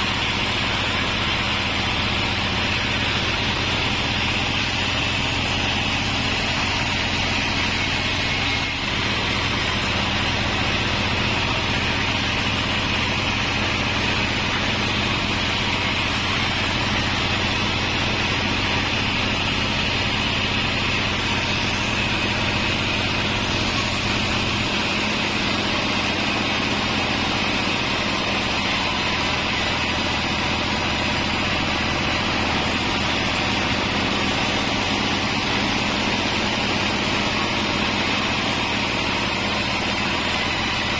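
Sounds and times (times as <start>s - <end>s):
bandsaw running: 0.0s - 40.9s.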